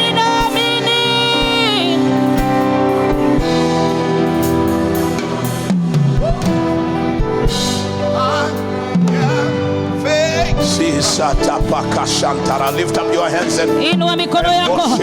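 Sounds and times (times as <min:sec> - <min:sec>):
worship band music: 0:00.0 - 0:15.0.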